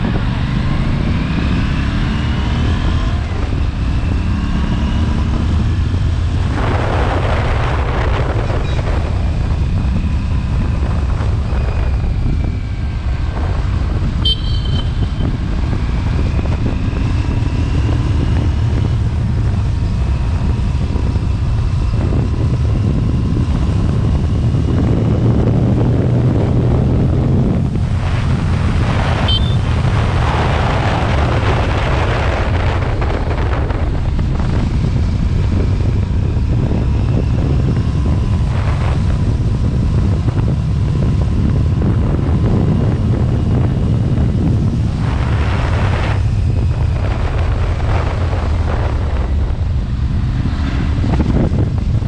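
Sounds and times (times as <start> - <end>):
motorcycle engine accelerating: 0.0 - 52.0
wind noise: 0.0 - 52.0.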